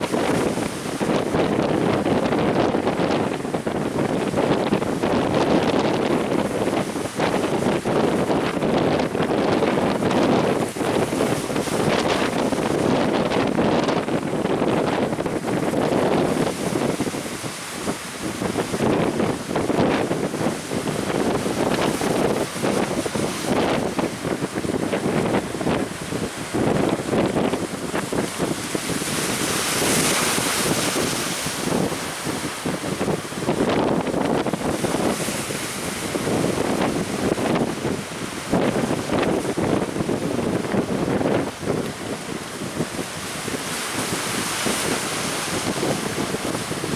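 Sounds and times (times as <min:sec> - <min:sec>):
surf rushing: 0:00.0 - 0:46.9
wave washing in: 0:00.0 - 0:46.9
wind buffeting microphone: 0:00.0 - 0:46.9.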